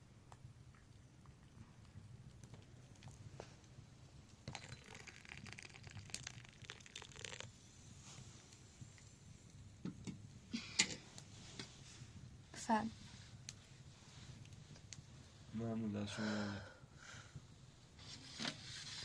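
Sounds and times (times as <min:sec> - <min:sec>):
low steady hum: 0:00.0 - 0:18.2.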